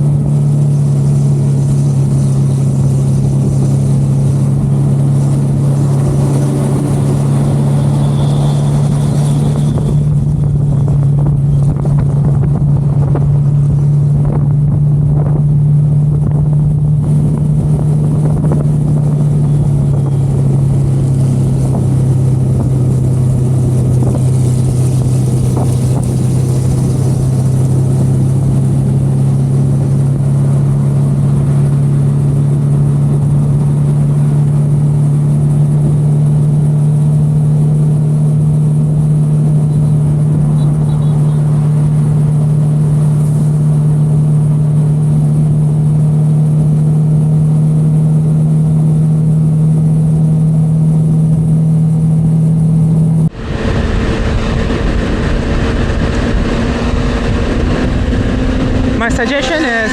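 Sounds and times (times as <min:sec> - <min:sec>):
motorcycle engine cruising: 0:00.0 - 0:59.9
wind and road rushing: 0:00.0 - 0:59.9.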